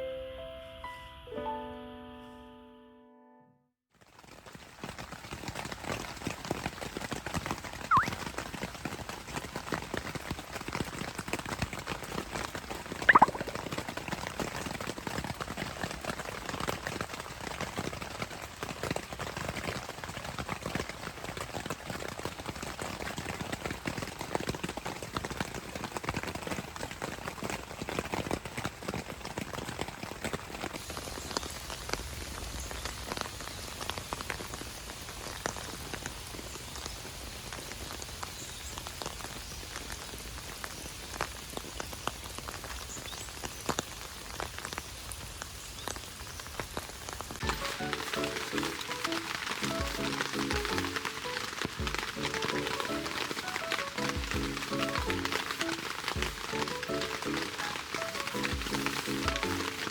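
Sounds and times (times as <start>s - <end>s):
rain falling: 4.0s - 59.9s.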